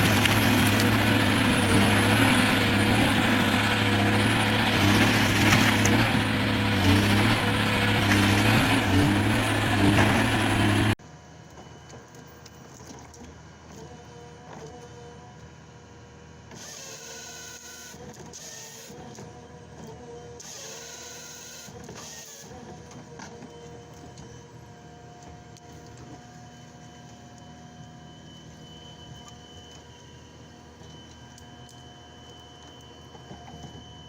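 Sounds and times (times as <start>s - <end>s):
heavy machine hydraulic whine: 0.0s - 11.0s, 16.6s - 34.0s.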